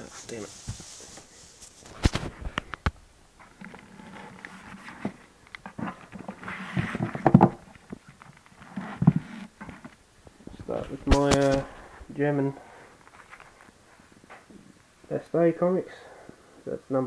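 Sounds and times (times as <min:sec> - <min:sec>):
rustling: 0:00.0 - 0:15.4.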